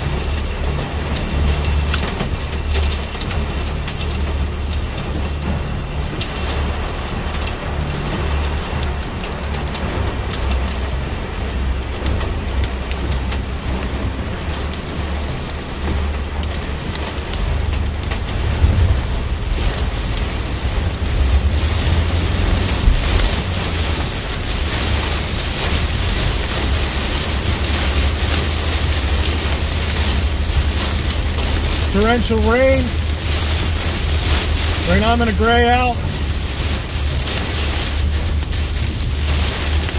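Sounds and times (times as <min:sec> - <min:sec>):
heavy rain drumming on car roof: 0:00.0 - 0:39.9
road and engine rumble: 0:00.0 - 0:39.9.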